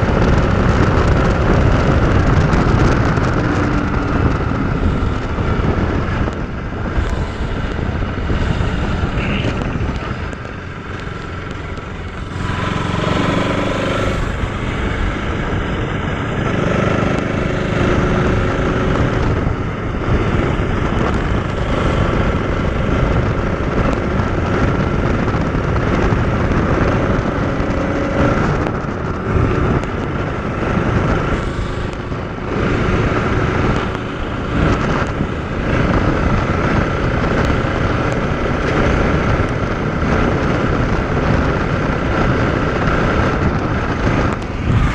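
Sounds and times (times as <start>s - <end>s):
motorcycle engine running: 0.0s - 44.9s
rush of noise: 0.0s - 44.9s.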